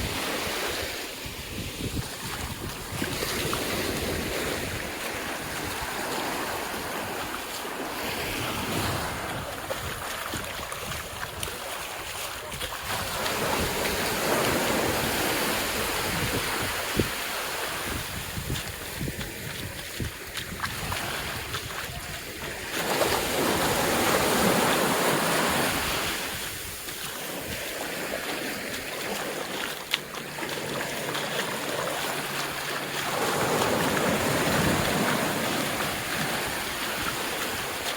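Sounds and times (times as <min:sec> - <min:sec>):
steady sea noise: 0:00.0 - 0:37.9
waves breaking on sand: 0:00.0 - 0:37.9.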